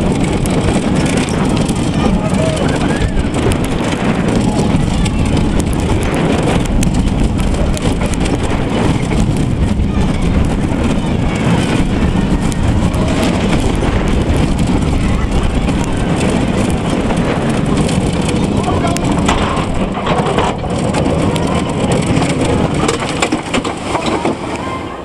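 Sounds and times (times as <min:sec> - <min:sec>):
roller coaster wheels rumbling: 0:00.0 - 0:25.0
wind buffeting: 0:00.0 - 0:25.0.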